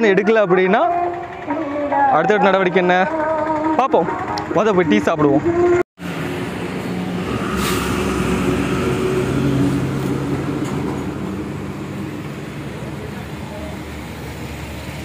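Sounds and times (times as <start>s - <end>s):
steady traffic hum: 0.0s - 15.0s
vehicle engine running close by: 0.0s - 15.0s.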